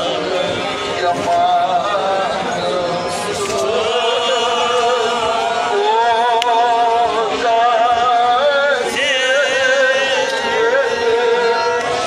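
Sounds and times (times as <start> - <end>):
man chanting through a megaphone: 0.0 - 12.0.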